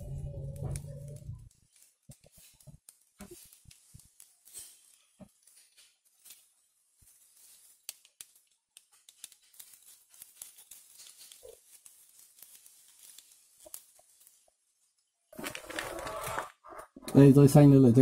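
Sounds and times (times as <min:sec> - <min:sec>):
hands rustling wires: 0:00.0 - 0:17.7.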